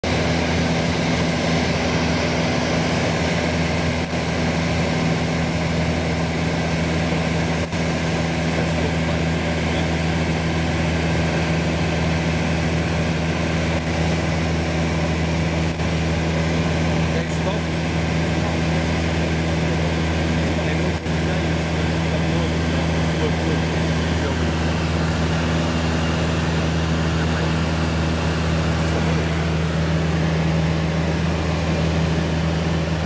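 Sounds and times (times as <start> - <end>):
propeller airplane engine droning: 0.0 - 33.0.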